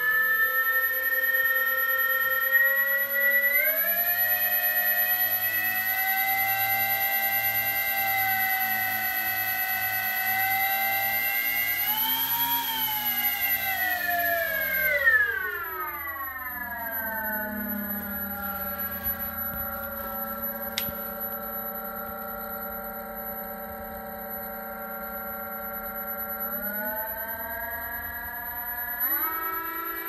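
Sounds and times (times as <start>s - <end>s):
model plane motors whining: 0.0s - 30.0s.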